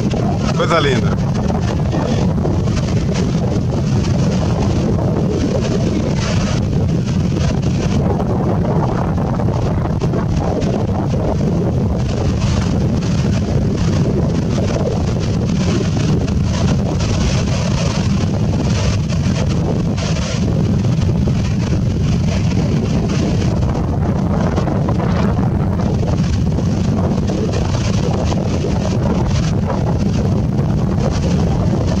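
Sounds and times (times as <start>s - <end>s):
surf breaking on beach: 0.0s - 32.0s
wind buffeting microphone: 0.0s - 32.0s.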